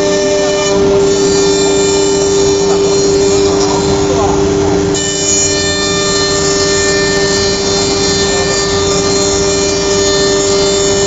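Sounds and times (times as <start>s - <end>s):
machine hum and whine: 0.0s - 11.0s.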